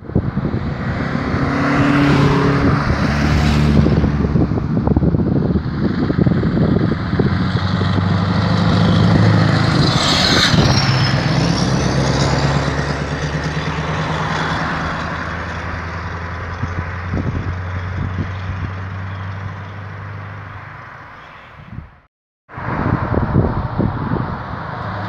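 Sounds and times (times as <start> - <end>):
diesel truck engine driving past: 0.3 - 20.6.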